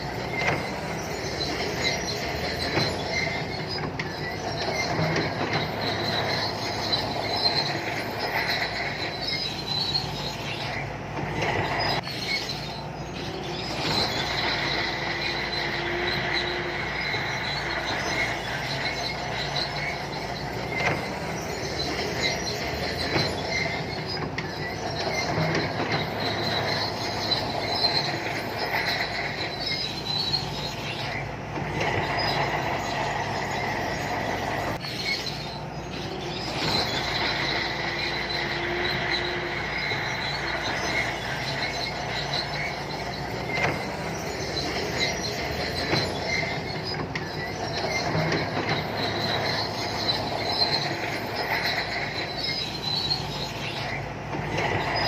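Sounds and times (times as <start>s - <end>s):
bulldozer engine running: 0.0s - 55.0s
high-pitched track squeal: 0.0s - 55.0s
steel tracks clicking: 0.0s - 55.0s.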